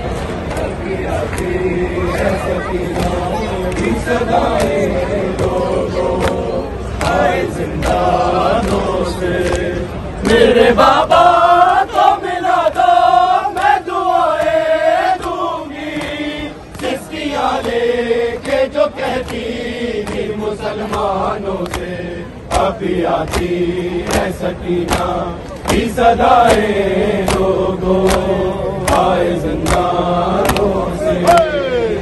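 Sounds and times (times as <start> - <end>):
men chanting a lament: 0.0 - 32.0
rhythmic chest-beating slaps: 0.0 - 32.0.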